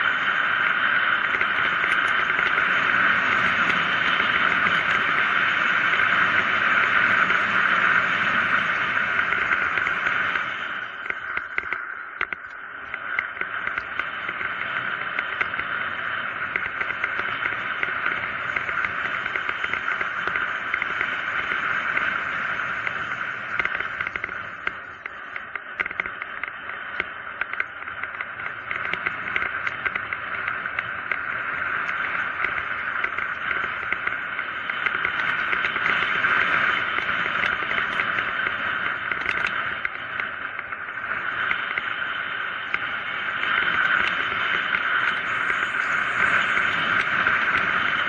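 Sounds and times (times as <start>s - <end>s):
bike clicks and rattles: 0.0s - 48.0s
tyre noise on paved road: 0.0s - 48.0s
wind rushing on microphone: 0.0s - 48.0s.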